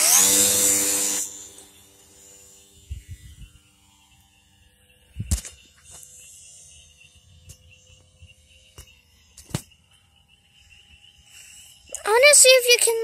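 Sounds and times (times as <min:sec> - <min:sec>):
model airplane electric motor whine: 0:00.0 - 0:12.9.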